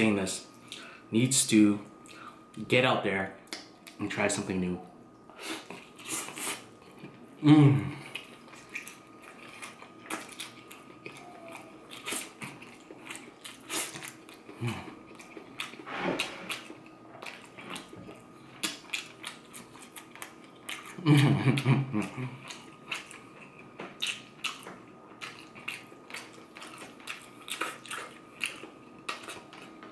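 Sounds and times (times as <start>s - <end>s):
person chewing meat: 5.3s - 29.9s.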